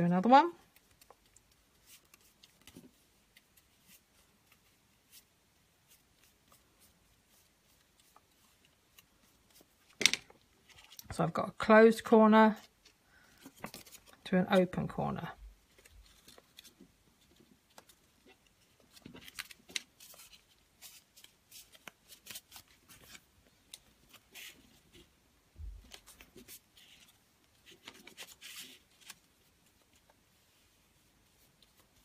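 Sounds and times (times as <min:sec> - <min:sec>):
paper rustling and crinkling: 0:00.7 - 0:11.1, 0:12.6 - 0:14.3, 0:15.6 - 0:32.0.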